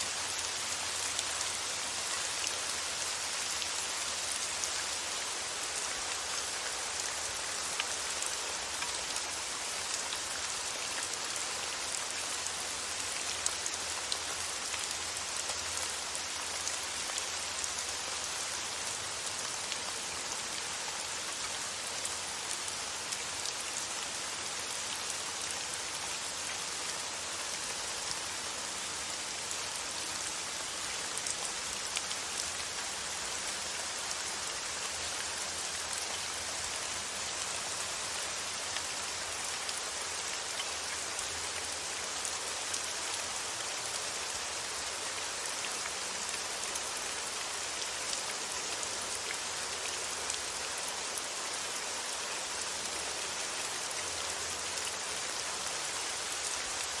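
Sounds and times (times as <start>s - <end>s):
rain drops pattering: 0.0s - 57.0s.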